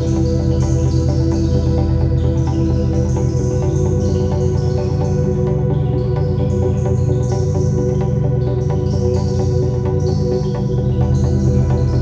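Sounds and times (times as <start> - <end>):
ambient electronic music: 0.0 - 12.0.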